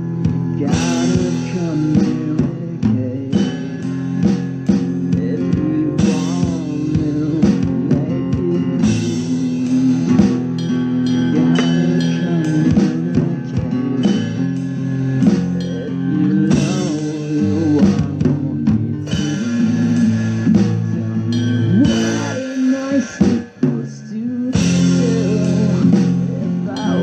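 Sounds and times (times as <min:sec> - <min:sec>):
rock song with guitar: 0:00.0 - 0:27.0.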